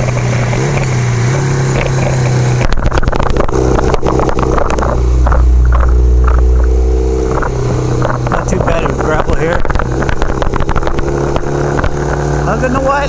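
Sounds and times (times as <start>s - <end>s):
motorcycle engine running: 0.0s - 13.0s
rattling knocks: 1.7s - 12.2s.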